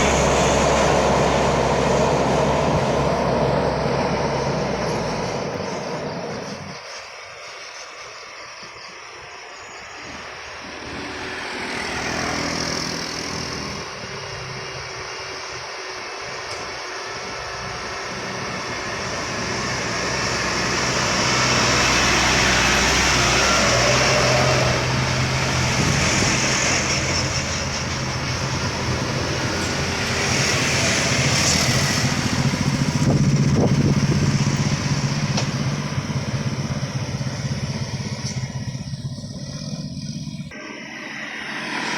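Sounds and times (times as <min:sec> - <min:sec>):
heavy diesel vehicle passing: 0:00.0 - 0:41.9.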